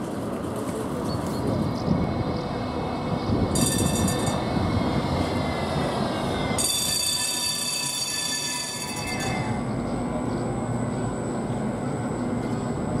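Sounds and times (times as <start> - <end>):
tram rumbling past: 0.0 - 13.0.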